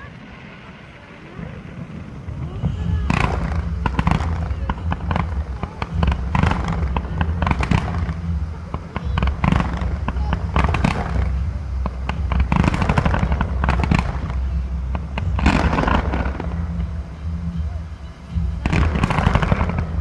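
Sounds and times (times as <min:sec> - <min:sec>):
fireworks bangs and crackles: 0:00.0 - 0:20.0
low rumble: 0:00.0 - 0:20.0.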